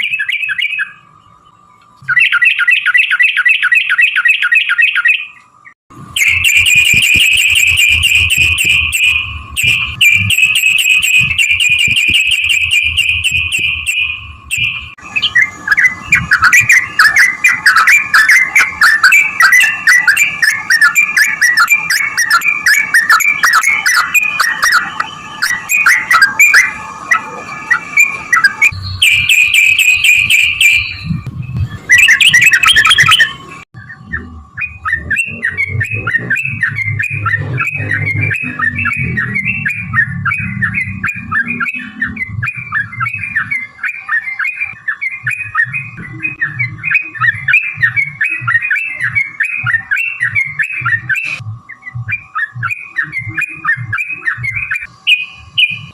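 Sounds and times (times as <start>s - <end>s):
bulbul chattering song: 0.0s - 55.9s.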